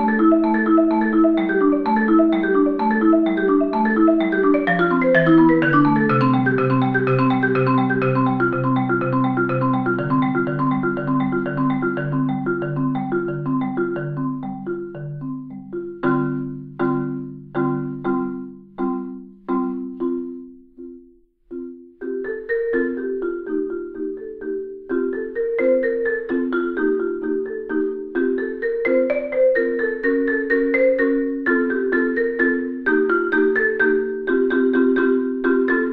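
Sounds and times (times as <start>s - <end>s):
marimba played with mallets: 0.0s - 35.9s.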